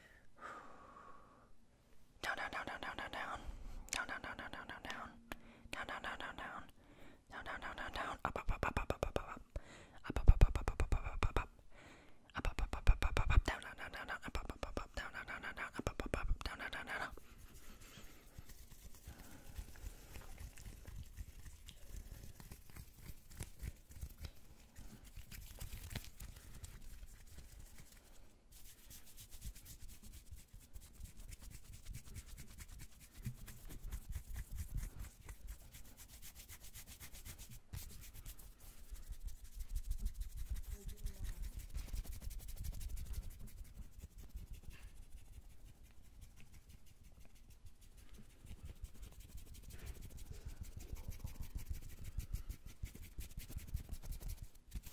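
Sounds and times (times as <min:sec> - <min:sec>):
hands rubbing together: 0:07.4 - 0:09.5, 0:10.1 - 0:11.6, 0:12.4 - 0:54.9.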